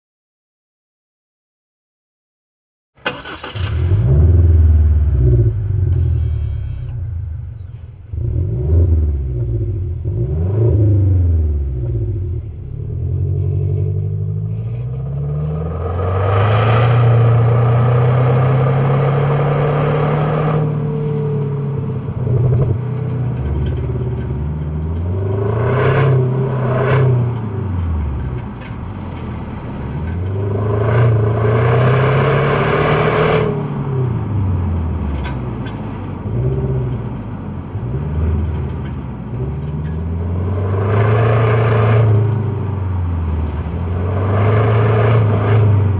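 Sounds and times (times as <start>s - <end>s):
car exhaust accelerating: 3.1s - 45.9s.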